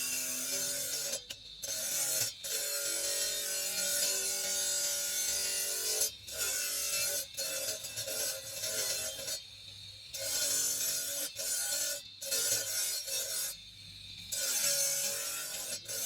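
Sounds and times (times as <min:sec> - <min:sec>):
file scraping marble: 0:00.0 - 0:09.4, 0:10.2 - 0:13.6, 0:14.3 - 0:16.0.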